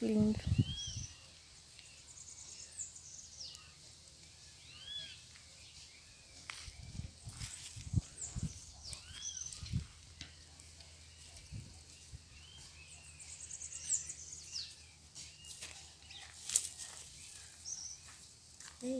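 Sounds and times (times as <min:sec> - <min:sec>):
birds chirping and calling: 0:00.0 - 0:18.9.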